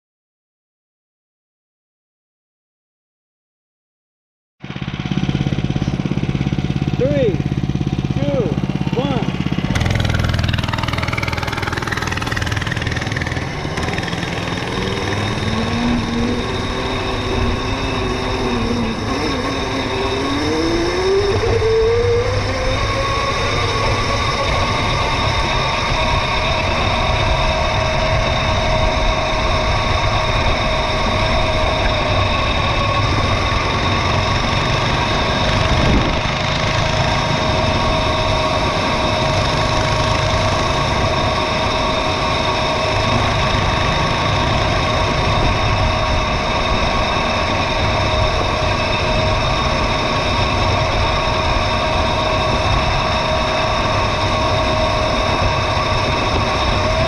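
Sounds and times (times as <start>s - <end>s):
mini bike motor drone: 4.6s - 57.0s
rough rumble of dirt trail: 4.6s - 57.0s.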